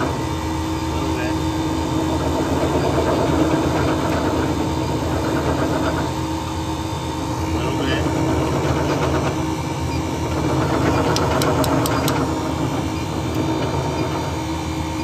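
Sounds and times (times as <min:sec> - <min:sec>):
refrigeration unit humming: 0:00.0 - 0:15.0.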